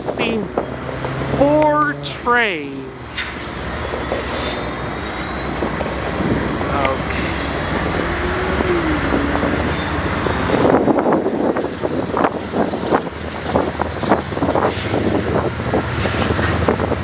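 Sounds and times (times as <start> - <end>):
train knocks and clatter: 0.0 - 1.8, 2.8 - 17.0
train rumbling: 0.0 - 17.0.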